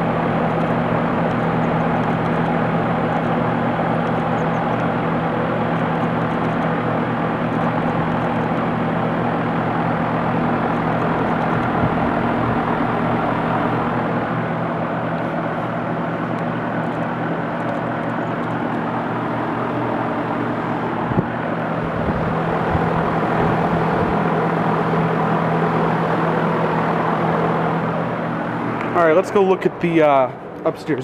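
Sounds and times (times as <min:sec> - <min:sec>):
compressor hum: 0:00.0 - 0:31.0
fan rushing: 0:00.0 - 0:31.0.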